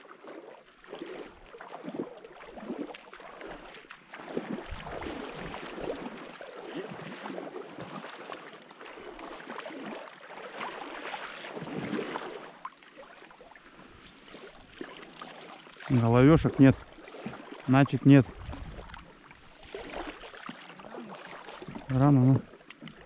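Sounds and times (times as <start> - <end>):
river water splashing around legs: 0.0 - 23.0.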